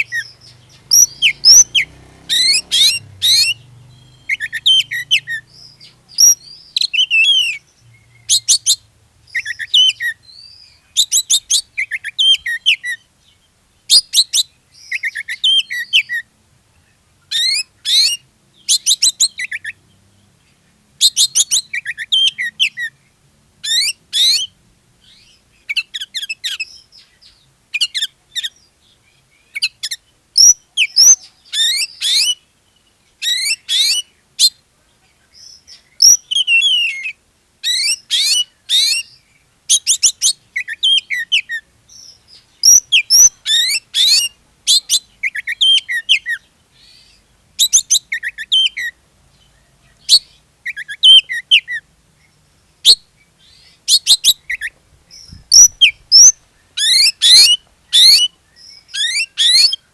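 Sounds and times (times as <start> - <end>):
songbird whistling song: 0.0 - 59.9.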